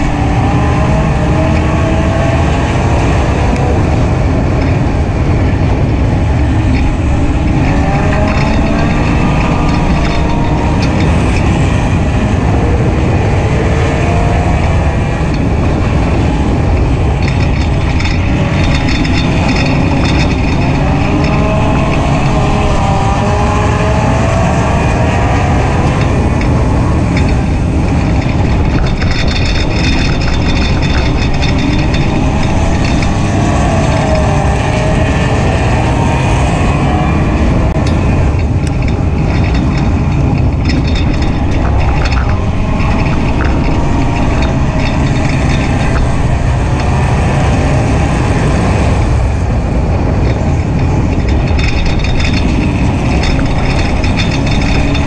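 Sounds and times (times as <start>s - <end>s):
race car engine revving: 0.0s - 55.0s
road and wind rumble: 0.0s - 55.0s.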